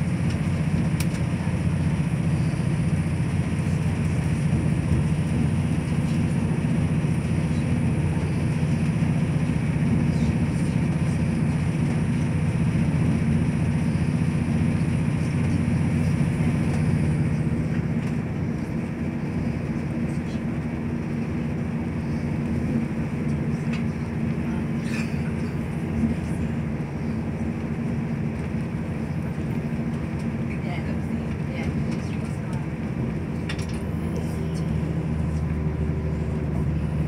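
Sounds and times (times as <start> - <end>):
train rumbling on rails: 0.0 - 37.0.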